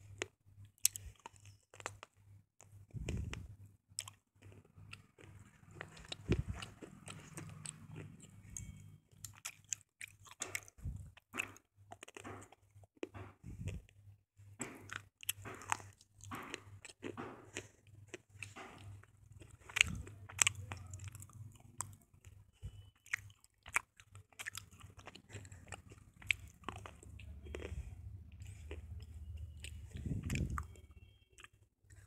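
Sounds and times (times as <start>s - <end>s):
crunchy chewing: 0.0s - 14.0s, 14.6s - 32.0s.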